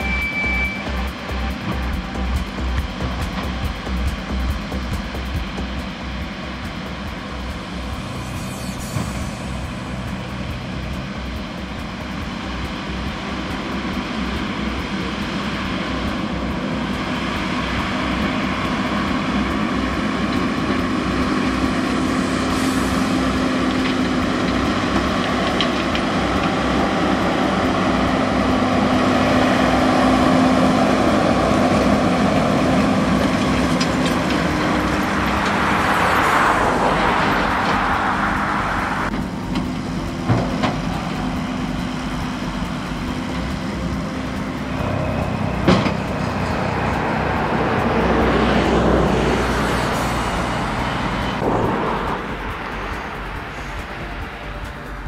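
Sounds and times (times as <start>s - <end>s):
low pulsing of baler: 0.0s - 55.0s
tractor engine running: 0.0s - 55.0s.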